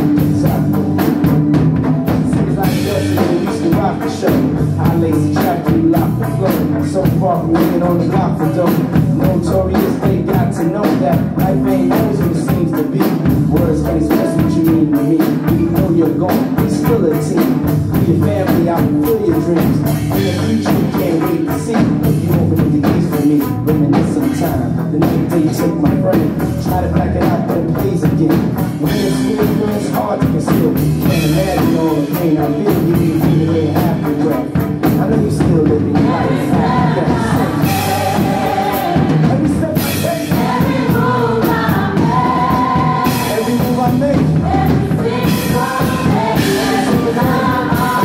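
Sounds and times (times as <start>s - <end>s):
acoustic drum kit playing: 0.0s - 48.0s
recorded pop song: 0.0s - 48.0s.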